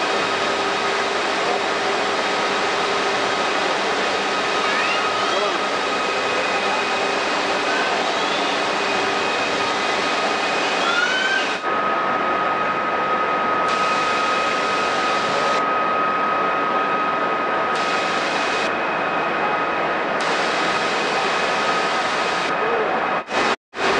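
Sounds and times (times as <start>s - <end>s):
machinery with conveyor belts: 0.0s - 23.9s
steady high whine: 0.0s - 23.9s.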